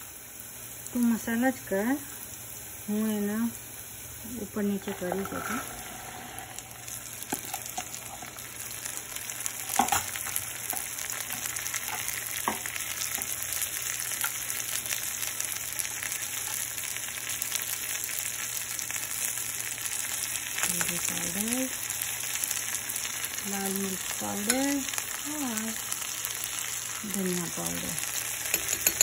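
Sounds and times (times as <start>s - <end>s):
beans sizzling in hot oil: 0.0s - 29.0s.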